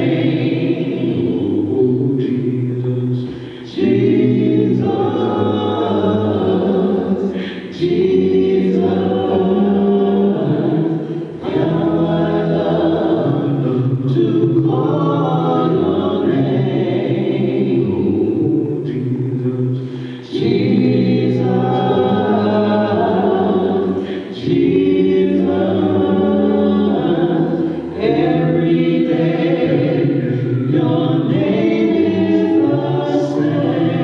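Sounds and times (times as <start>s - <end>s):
congregation singing a hymn: 0.0s - 34.0s.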